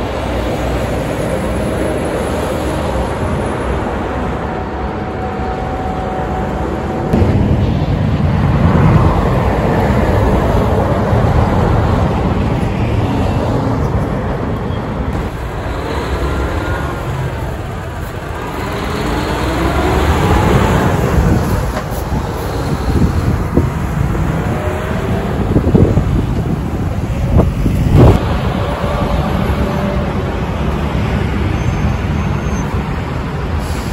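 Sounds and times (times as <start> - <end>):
trucks engine rumble: 0.0 - 33.9
tyre noise on road: 0.0 - 33.9.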